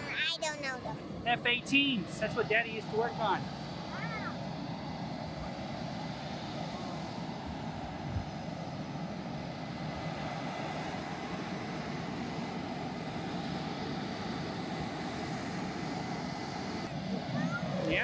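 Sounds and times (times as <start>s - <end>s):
distant jet engine noise: 0.0s - 18.0s.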